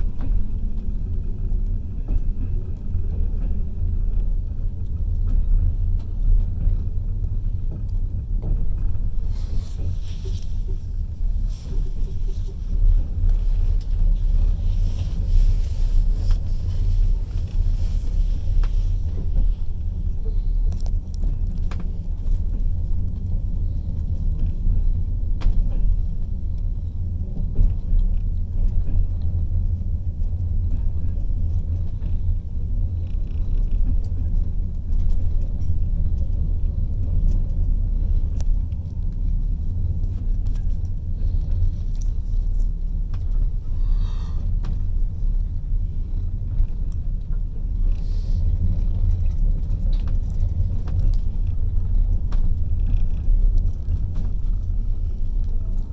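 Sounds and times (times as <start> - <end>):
train rumble from inside carriage: 0.0 - 55.9.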